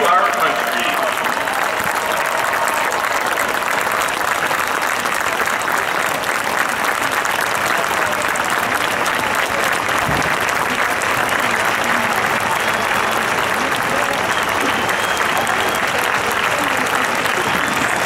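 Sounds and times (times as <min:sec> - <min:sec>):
stadium crowd applauding: 0:00.0 - 0:18.0.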